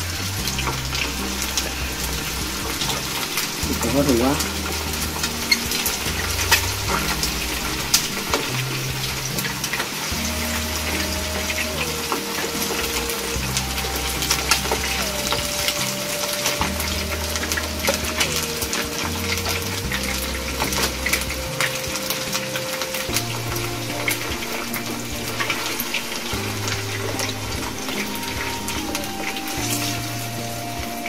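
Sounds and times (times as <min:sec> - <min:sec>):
background music sustained notes: 0:00.0 - 0:31.0
chicken frying in hot oil: 0:00.0 - 0:31.0.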